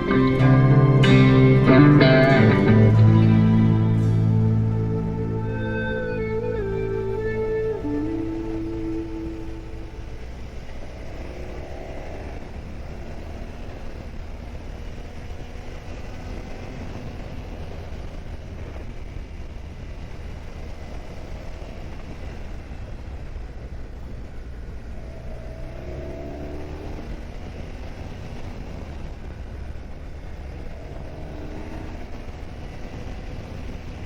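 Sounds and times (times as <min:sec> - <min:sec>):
motorcycle engine rumble: 0:00.0 - 0:34.0.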